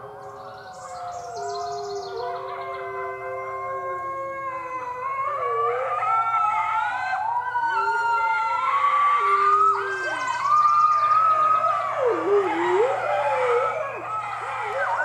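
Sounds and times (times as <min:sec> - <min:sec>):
wolf pup howling: 0:00.0 - 0:15.0
wolves howling: 0:00.0 - 0:15.0.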